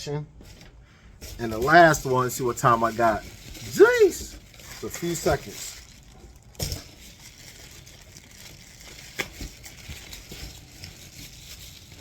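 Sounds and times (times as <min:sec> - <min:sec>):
packaging crinkling and rustling: 0:00.4 - 0:12.0.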